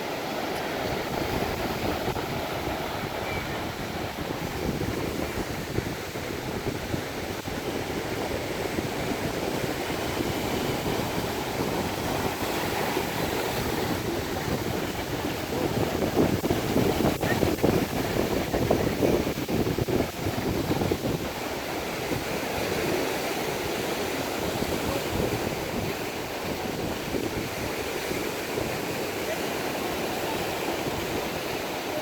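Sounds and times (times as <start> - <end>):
waves washing on shore: 0.0 - 32.0
wind on microphone: 0.0 - 32.0.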